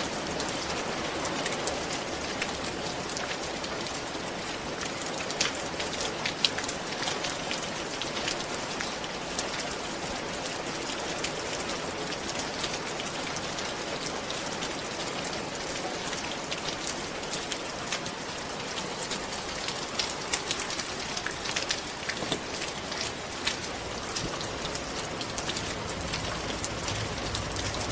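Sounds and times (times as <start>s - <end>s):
rain on a roof: 0.0s - 27.9s.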